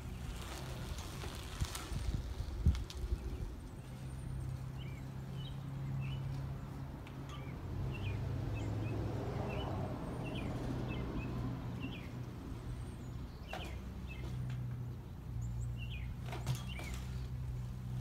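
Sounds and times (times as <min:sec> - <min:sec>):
bike tyres rolling on asphalt: 0:00.0 - 0:18.0
small birds chirping: 0:02.4 - 0:17.9.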